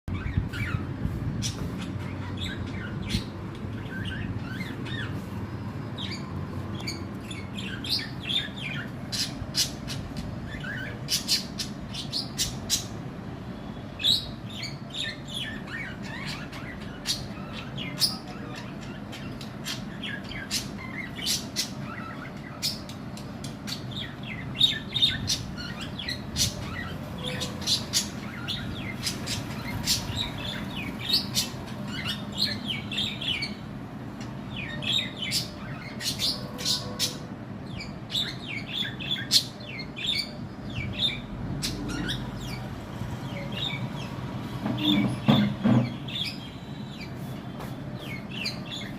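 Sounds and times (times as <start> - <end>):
parrots chirping and squawking: 0.1 - 13.1, 14.0 - 47.2, 47.9 - 48.9.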